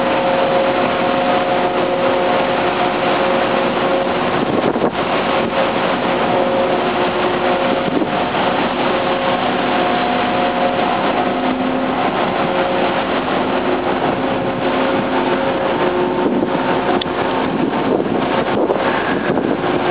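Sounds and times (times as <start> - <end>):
propeller wash rushing: 0.0 - 19.9
ship machinery: 0.0 - 19.9.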